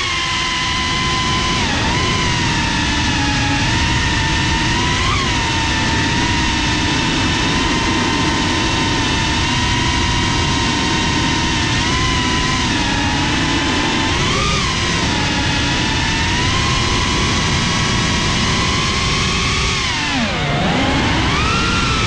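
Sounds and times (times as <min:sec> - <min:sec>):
drone motors whining: 0:00.0 - 0:22.0
wind rush: 0:00.3 - 0:22.0.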